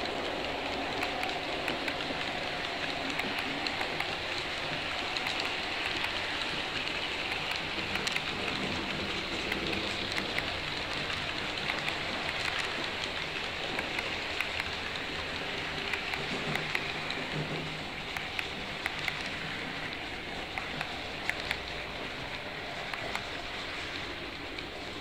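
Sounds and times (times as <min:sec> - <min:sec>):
model train wheels rolling on rails: 0:00.0 - 0:25.0
wheels and couplings clicking: 0:00.0 - 0:25.0.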